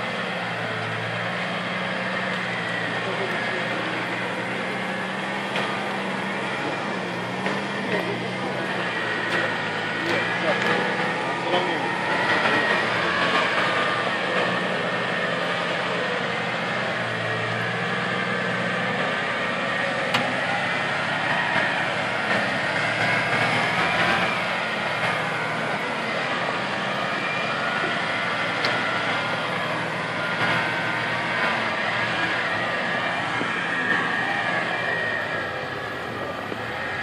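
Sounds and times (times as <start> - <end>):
engine running at low revs: 0.0 - 37.0.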